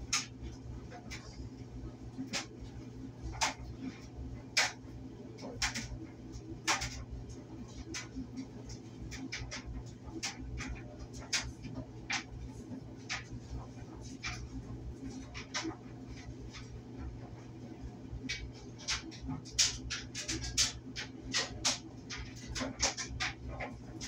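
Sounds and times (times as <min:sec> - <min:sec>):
clothes dryer humming: 0:00.0 - 0:24.0.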